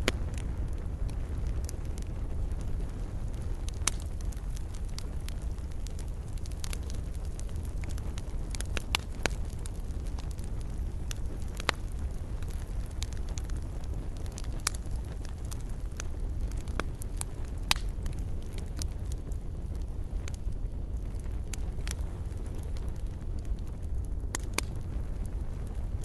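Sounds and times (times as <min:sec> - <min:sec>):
fire crackling and popping: 0:00.0 - 0:26.0
wood fire rumbling: 0:00.0 - 0:26.0.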